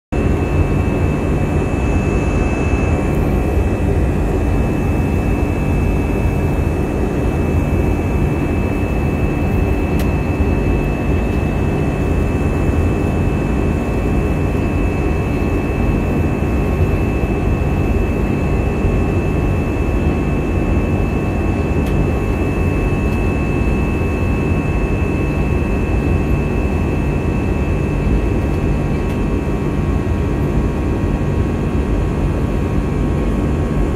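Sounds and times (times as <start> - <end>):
engine and airflow rush: 0.1 - 33.9
thin high whine: 0.2 - 30.3.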